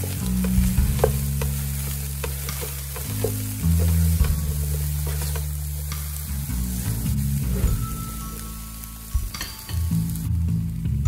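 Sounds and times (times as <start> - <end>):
low background music: 0.0 - 11.0
rice sizzling in a pot: 0.0 - 11.0.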